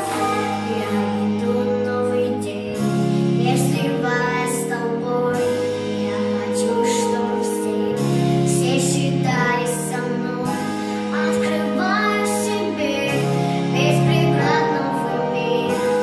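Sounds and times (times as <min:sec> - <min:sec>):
girl singing into a microphone: 0:00.0 - 0:16.0
pop backing track: 0:00.0 - 0:16.0.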